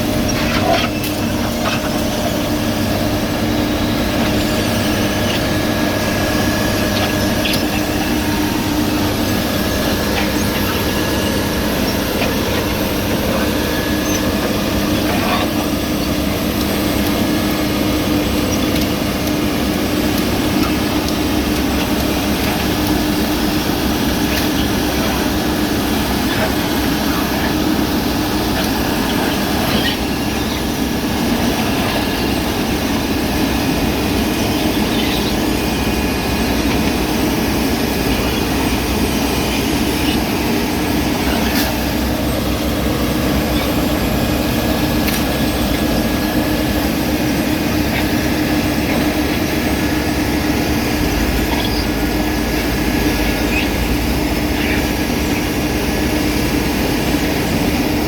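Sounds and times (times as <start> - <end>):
paving machinery diesel engine: 0.0 - 58.0.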